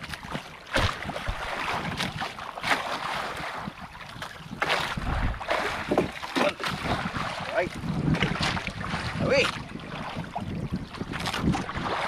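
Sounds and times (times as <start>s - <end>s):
short knocks or splashes: 0.0s - 10.3s
water lapping against boat hull: 0.0s - 12.0s
wind on microphone: 0.0s - 12.0s.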